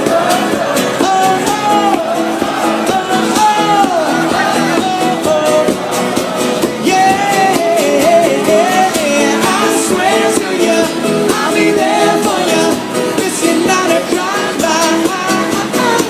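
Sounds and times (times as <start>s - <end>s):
drums keeping a beat: 0.0s - 16.0s
pop-rock band playing: 0.0s - 16.0s
wordless sung vocal: 0.0s - 16.0s.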